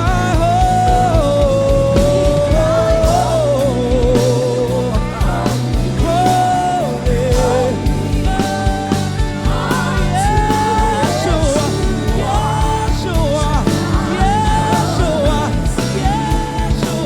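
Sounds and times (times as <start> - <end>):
drums keeping a steady beat: 0.0 - 17.0
people singing: 0.0 - 17.0
sliding lead notes: 0.0 - 17.0.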